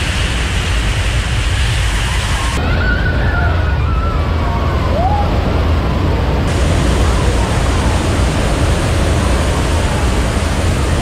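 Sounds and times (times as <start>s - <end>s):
torrent of water rushing: 0.0s - 11.0s.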